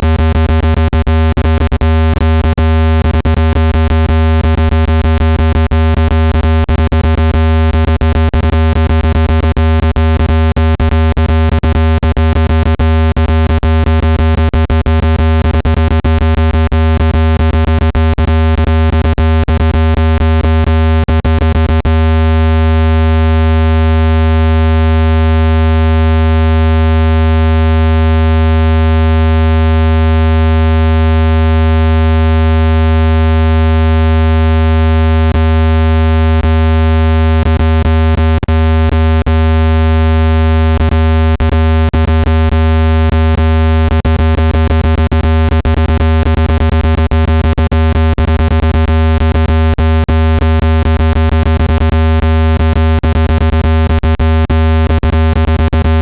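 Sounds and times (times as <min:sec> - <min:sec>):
low electronic buzz: 0:00.0 - 0:56.0.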